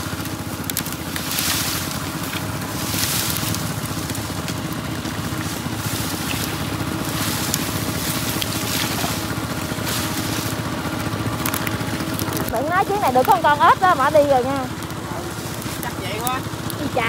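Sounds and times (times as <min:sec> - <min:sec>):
dry branches crackling and scraping: 0:00.0 - 0:17.0
engine droning: 0:00.0 - 0:17.0.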